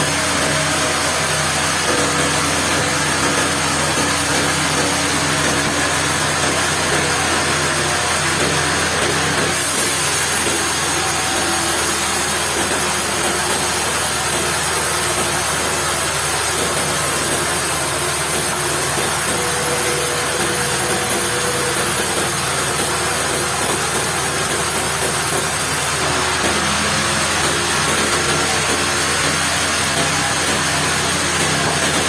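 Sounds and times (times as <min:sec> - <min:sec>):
sawmill machinery running: 0:00.0 - 0:32.0.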